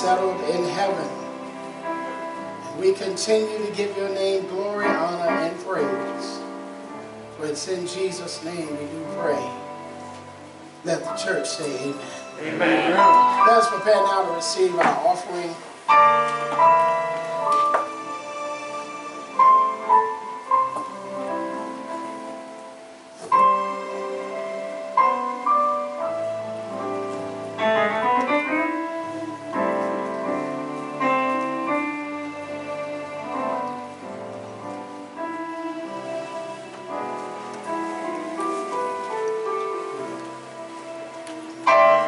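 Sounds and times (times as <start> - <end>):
piano keyboard chords and melody: 0.0 - 42.0.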